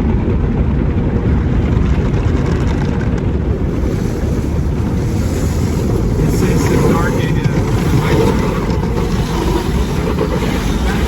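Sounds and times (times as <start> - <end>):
car wash water spray and machinery: 0.0 - 11.0.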